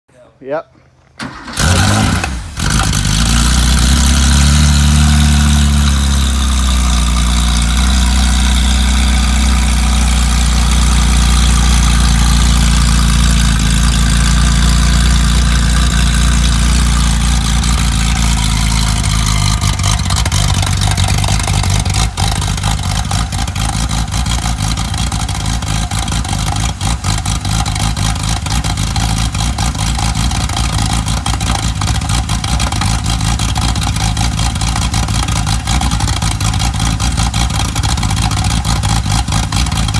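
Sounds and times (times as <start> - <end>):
car engine idling: 1.2 - 39.9.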